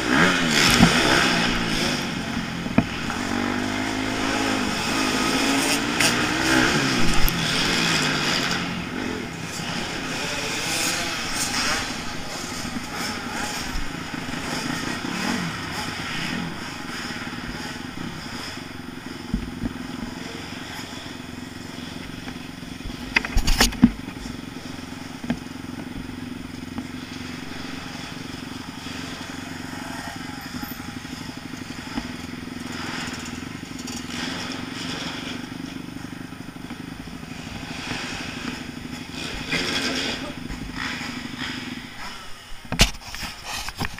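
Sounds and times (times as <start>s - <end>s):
motorbike engine running at low revs: 0.0s - 43.9s.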